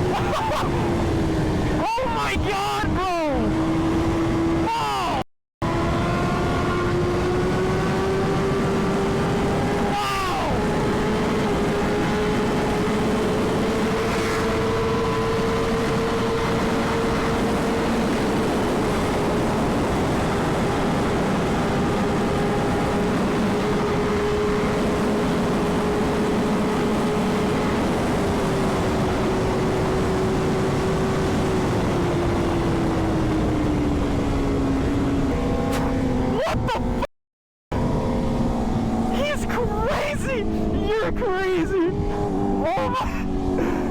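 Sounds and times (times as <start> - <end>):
motorcycle engine at high revs: 0.0 - 1.8, 2.8 - 4.7, 5.6 - 37.1, 37.7 - 43.9.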